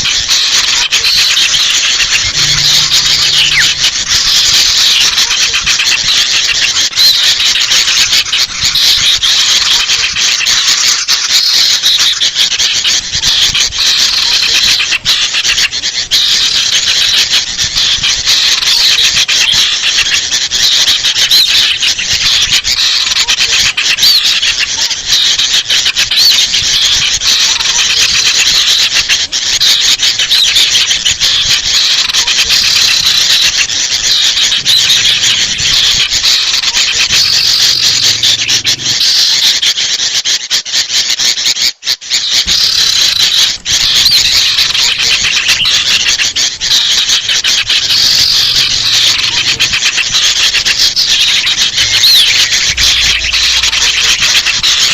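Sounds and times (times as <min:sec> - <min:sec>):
small birds chattering and calling: 0:00.0 - 0:54.9.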